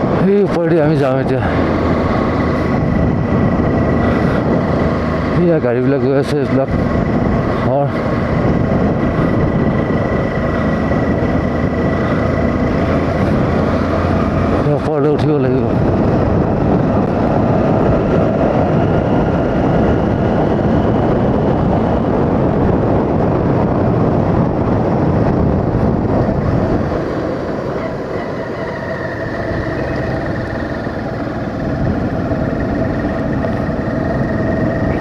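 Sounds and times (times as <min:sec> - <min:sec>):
motorcycle engine running: 0:00.0 - 0:35.0
wind rush over microphone: 0:00.0 - 0:35.0.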